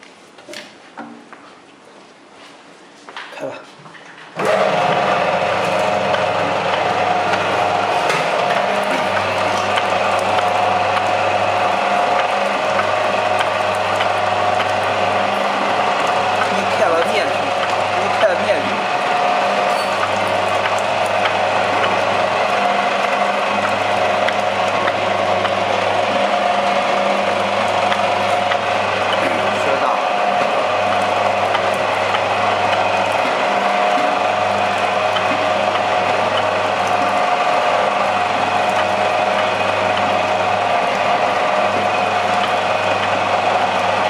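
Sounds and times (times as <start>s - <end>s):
machine clattering and whirring: 4.2s - 44.0s
low machine hum: 4.4s - 44.0s.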